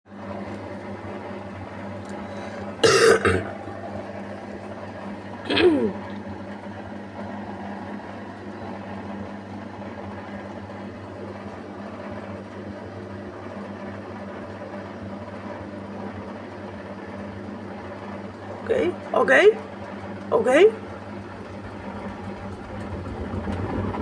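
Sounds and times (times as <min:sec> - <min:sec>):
washing machine humming: 0:00.1 - 0:24.0.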